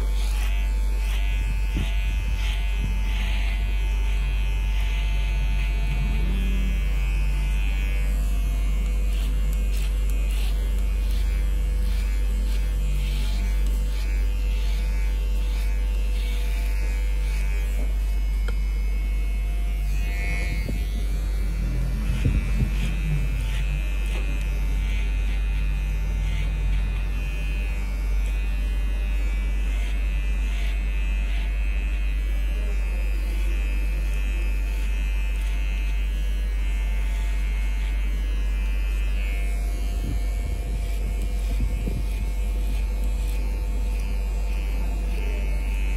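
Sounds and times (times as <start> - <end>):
electric hair clipper buzzing: 0.0 - 45.9.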